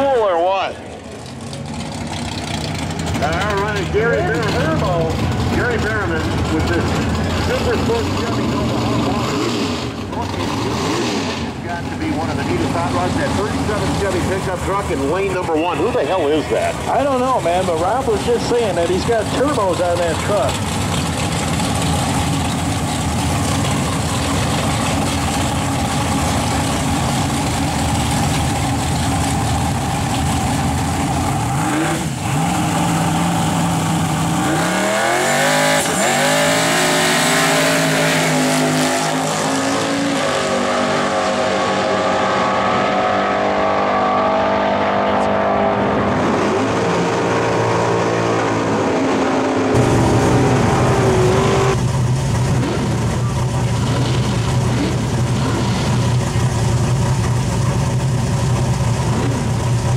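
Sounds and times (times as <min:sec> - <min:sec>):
cars accelerating hard: 0:00.0 - 0:59.9
hot rod engines idling and revving: 0:00.0 - 0:59.9.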